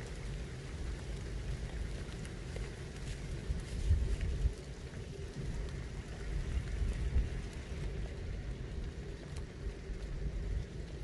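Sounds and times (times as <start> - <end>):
light rain hiss: 0.0 - 11.0.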